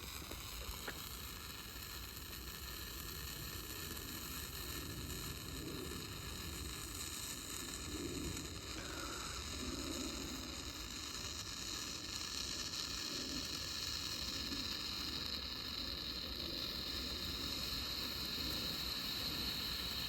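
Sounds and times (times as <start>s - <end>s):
firework hissing sizzle: 0.0s - 20.0s.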